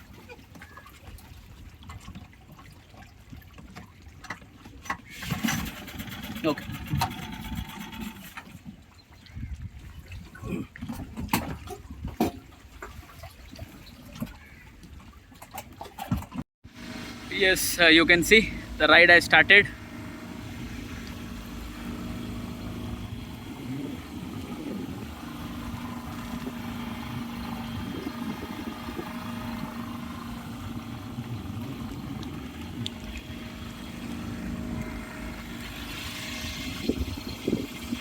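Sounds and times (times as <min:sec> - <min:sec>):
boat moving through water: 0:00.0 - 0:38.0
motorboat engine hum: 0:00.0 - 0:38.0.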